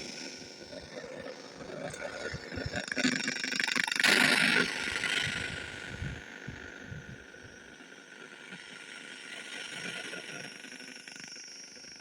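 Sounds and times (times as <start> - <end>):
steady detector hiss: 0.0 - 12.0.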